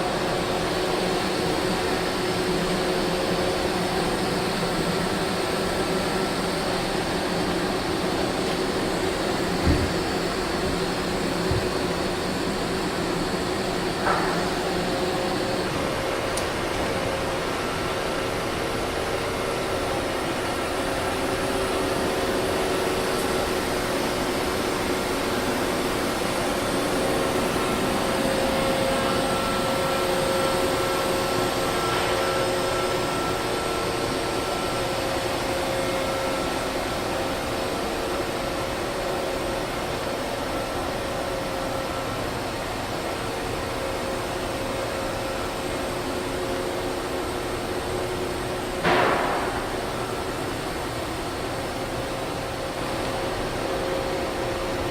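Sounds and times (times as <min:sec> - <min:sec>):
machining center whirring: 0:00.0 - 0:54.9.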